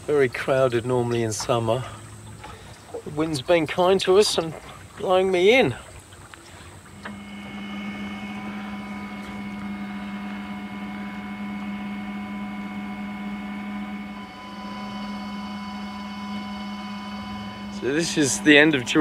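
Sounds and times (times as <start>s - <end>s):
electric outboard motor whining: 0.0s - 19.0s.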